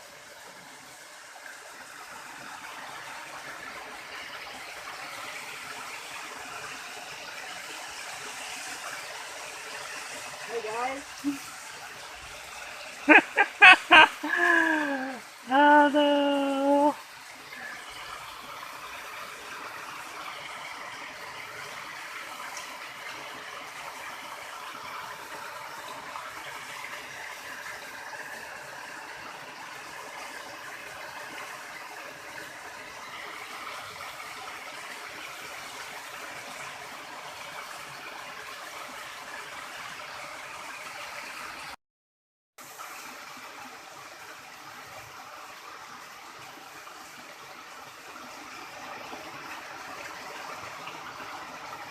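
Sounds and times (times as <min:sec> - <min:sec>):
river water rushing: 0:00.0 - 0:41.7.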